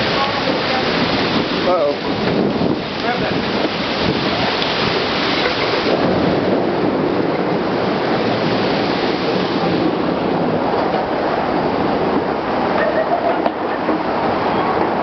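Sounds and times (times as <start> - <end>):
heavy rain: 0.0 - 15.0
strong squall winds: 0.0 - 15.0.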